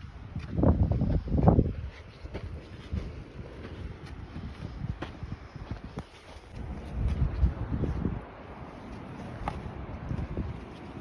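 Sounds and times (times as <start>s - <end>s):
footsteps on a trail: 0.0s - 11.0s
wind rumble on microphone: 0.0s - 11.0s.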